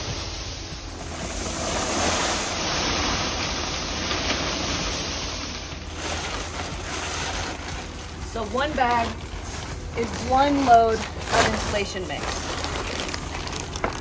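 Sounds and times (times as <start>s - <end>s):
styrofoam beads rustling and pouring: 0.0s - 14.0s.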